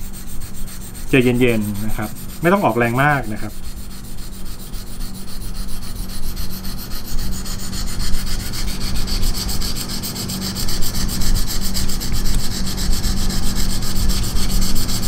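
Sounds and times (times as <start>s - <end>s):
sharpening stone rasping on knife: 0.0s - 15.0s.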